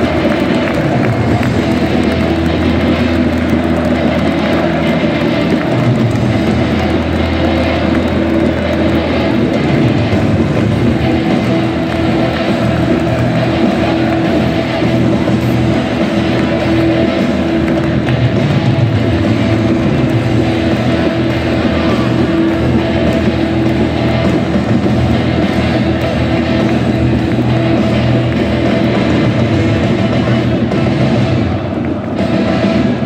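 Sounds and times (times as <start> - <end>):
football crowd noise: 0.0 - 33.0
rock music over loudspeakers: 0.0 - 33.0.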